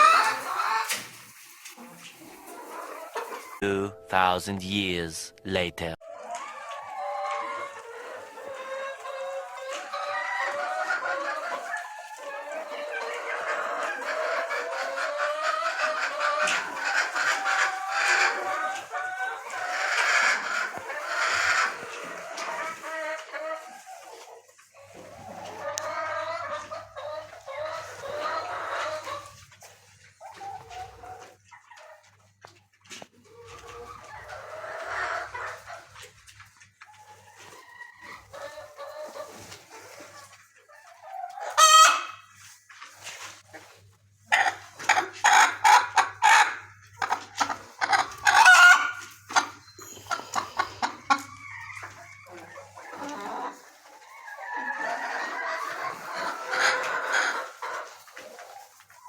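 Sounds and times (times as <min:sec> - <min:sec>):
chicken squawk: 0:00.0 - 0:03.6, 0:06.0 - 0:29.4, 0:33.3 - 0:36.0, 0:37.0 - 0:42.3, 0:44.3 - 0:59.0
chickens clucking: 0:00.0 - 0:59.0.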